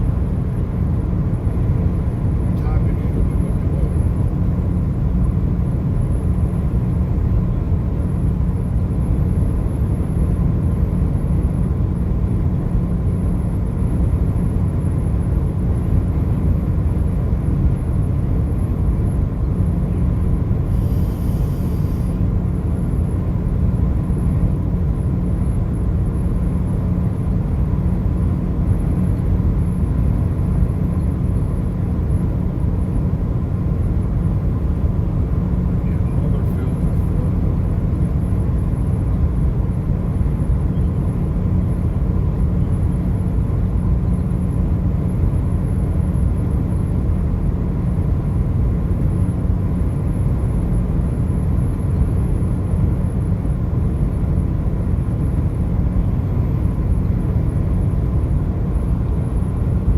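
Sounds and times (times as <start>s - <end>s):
car rumbling at highway speed: 0.0s - 59.9s.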